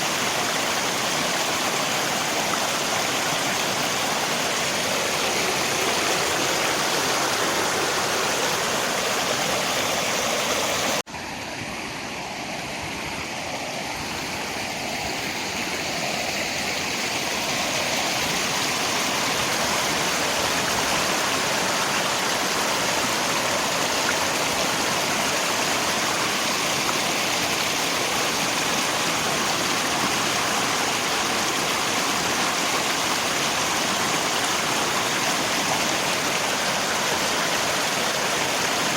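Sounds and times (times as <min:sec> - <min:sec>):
rain: 0:00.0 - 0:38.9
river water rushing: 0:00.0 - 0:38.9.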